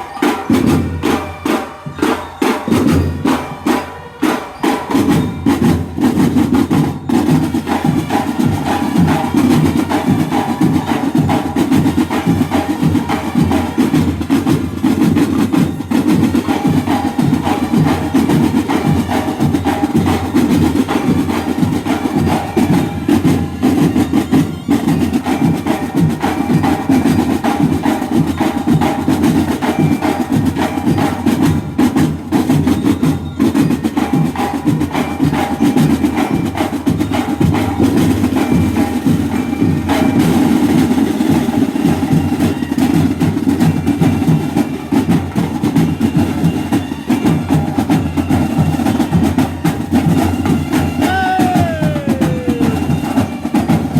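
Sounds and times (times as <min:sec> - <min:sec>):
marching snare and bass drums: 0:00.0 - 0:53.9.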